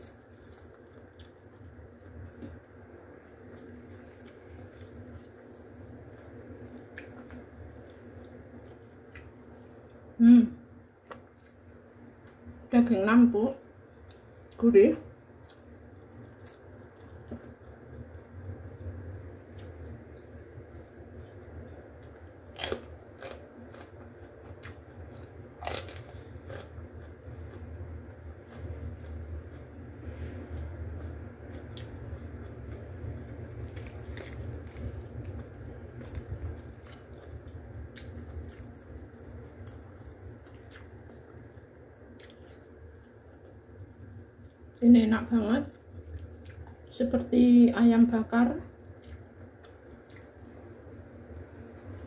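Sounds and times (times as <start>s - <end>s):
chewing: 0.0s - 10.1s, 11.0s - 12.7s, 13.5s - 44.8s, 45.6s - 47.3s, 48.6s - 52.0s
soft squishing of food: 0.0s - 52.0s
steady low hum: 0.0s - 52.0s.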